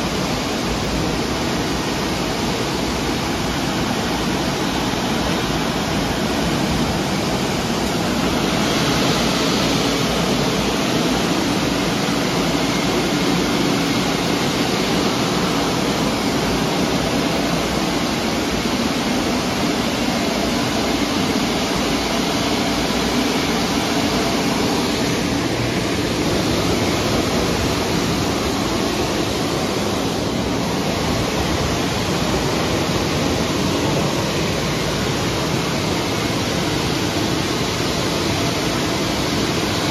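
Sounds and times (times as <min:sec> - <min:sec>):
car wash machine rushing: 0:00.0 - 0:39.9.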